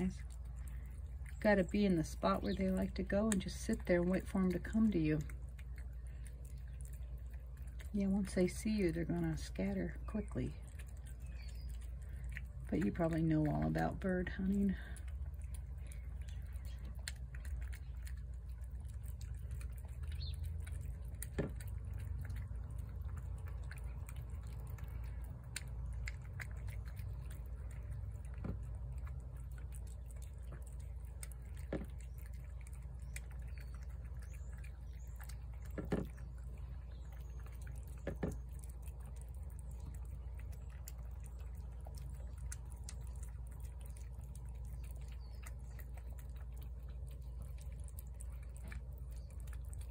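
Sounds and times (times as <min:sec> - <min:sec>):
cats chewing wet food: 0:00.0 - 0:49.9
steady low rumble: 0:00.0 - 0:49.9.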